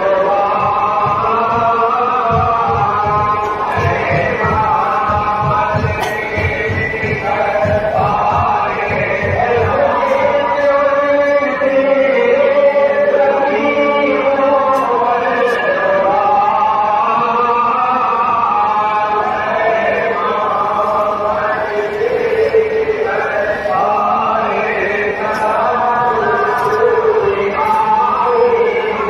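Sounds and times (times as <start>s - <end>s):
men chanting together: 0.0s - 29.0s.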